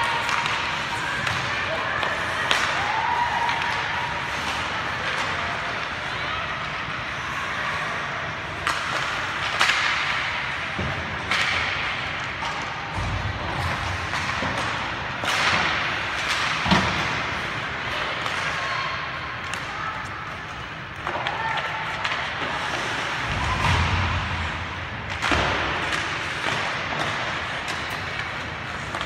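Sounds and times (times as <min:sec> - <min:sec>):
sticks and puck hitting boards: 0:00.0 - 0:06.0, 0:08.5 - 0:18.7, 0:19.4 - 0:29.0.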